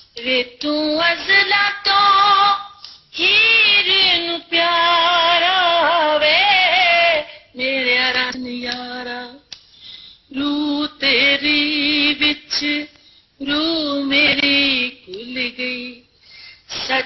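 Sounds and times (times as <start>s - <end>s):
woman singing: 0.0s - 9.5s, 10.3s - 16.1s, 16.7s - 17.0s.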